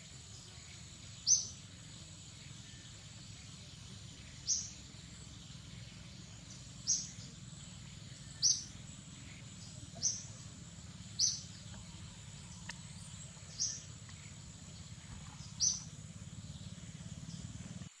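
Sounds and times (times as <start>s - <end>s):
bird chirping: 0.0s - 18.0s
high insect drone: 0.0s - 18.0s.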